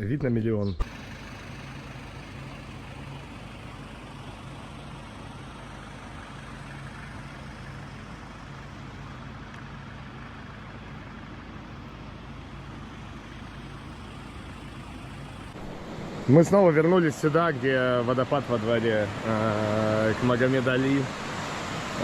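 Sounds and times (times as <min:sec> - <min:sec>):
road noise: 0:00.8 - 0:22.0
vehicle engine hum: 0:00.8 - 0:22.0.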